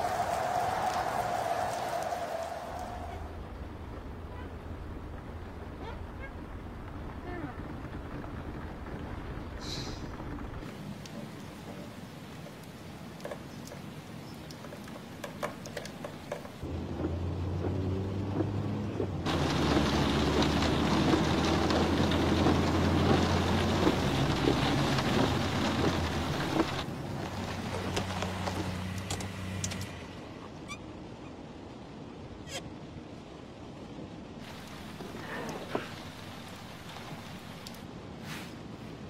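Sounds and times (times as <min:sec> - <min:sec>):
rain falling: 0:00.0 - 0:38.8.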